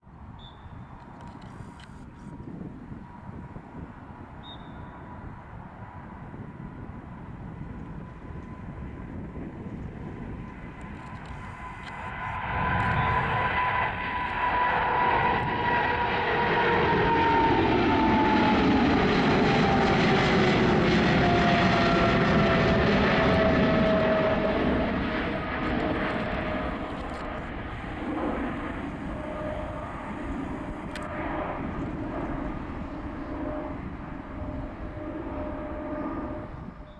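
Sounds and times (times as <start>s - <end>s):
jet airliner taking off: 2.5s - 36.9s.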